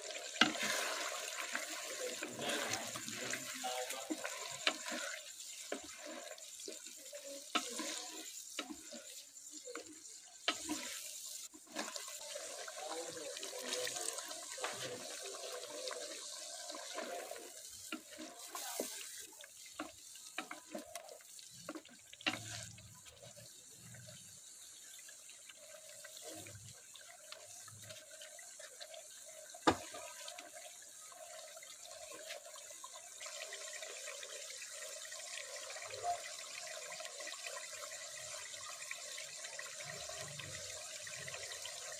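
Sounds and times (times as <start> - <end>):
water running and splashing: 0.0 - 41.9.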